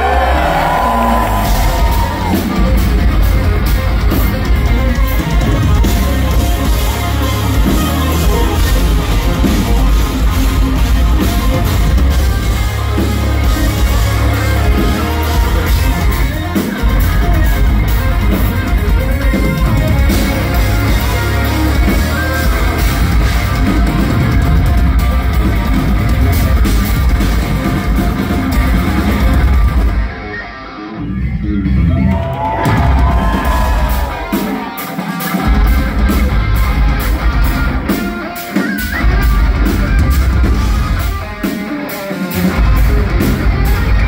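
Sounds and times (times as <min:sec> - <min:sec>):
drum kit: 0:00.0 - 0:30.4, 0:31.6 - 0:44.0
bass guitar: 0:00.0 - 0:34.4, 0:35.4 - 0:44.0
distorted electric guitars: 0:00.0 - 0:44.0.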